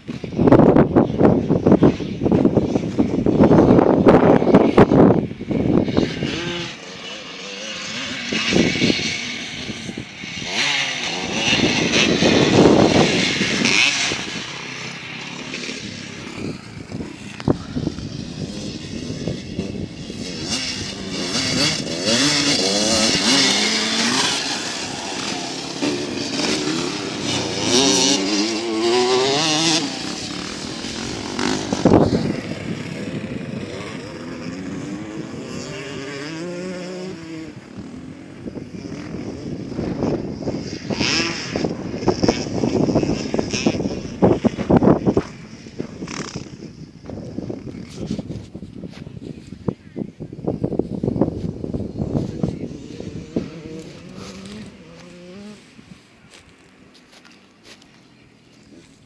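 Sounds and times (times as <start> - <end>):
dirt bikes revving: 0.0 - 59.0.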